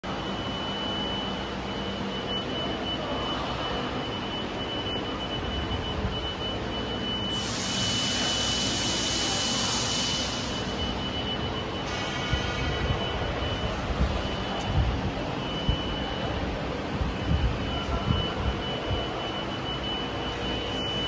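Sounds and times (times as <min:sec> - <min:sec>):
factory machinery whining: 0:00.1 - 0:21.0.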